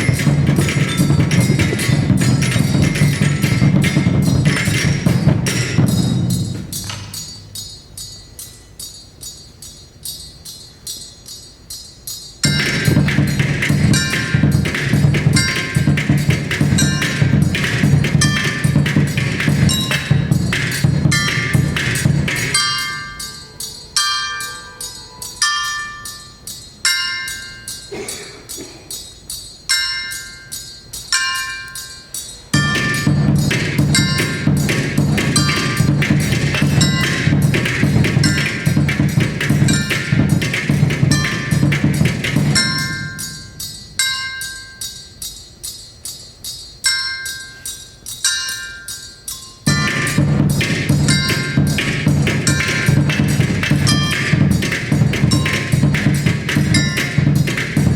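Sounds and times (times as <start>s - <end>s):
tuned metal percussion ringing: 0.0s - 57.9s.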